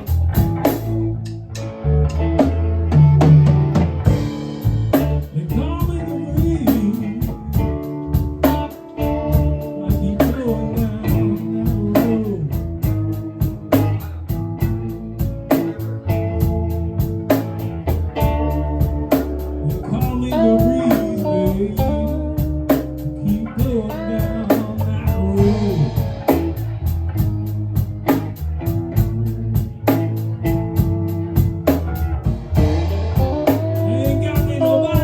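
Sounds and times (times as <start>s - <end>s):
blues rock band playing: 0.0s - 35.0s
lead guitar with bent notes: 0.0s - 35.0s.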